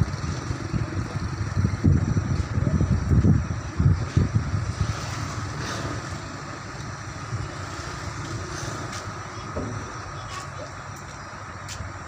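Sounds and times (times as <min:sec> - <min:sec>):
crane diesel engine rumble: 0:00.0 - 0:12.0.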